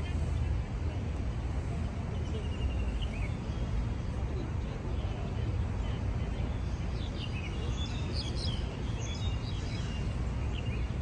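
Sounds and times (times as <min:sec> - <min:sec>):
low outdoor rumble: 0:00.0 - 0:11.0
small birds chirping: 0:01.8 - 0:11.0.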